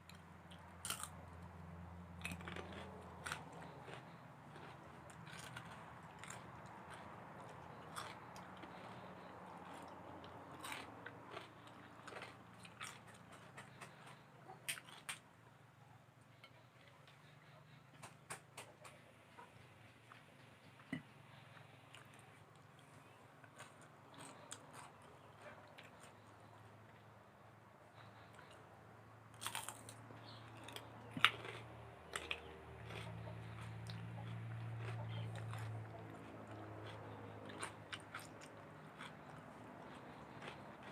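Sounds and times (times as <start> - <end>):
chewing food close-up: 0.0 - 40.9
faint low hum: 0.0 - 40.9.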